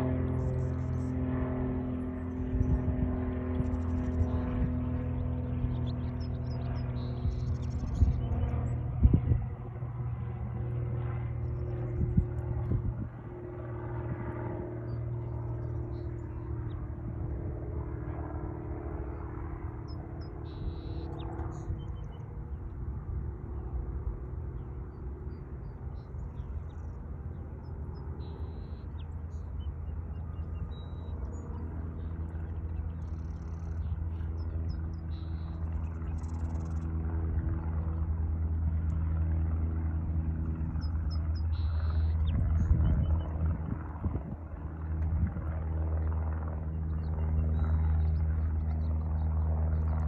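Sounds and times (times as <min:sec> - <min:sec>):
low motor rumble: 0:00.0 - 0:50.0.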